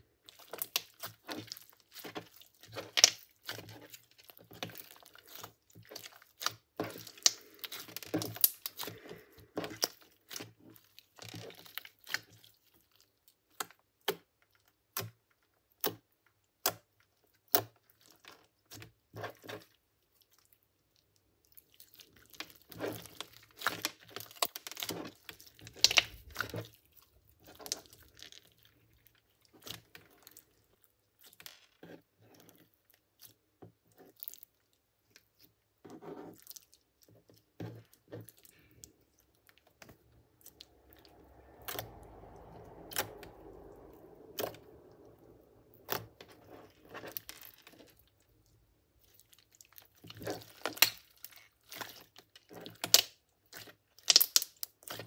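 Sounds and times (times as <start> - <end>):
slime kneaded by hand: 0.2 - 21.0, 21.6 - 55.0.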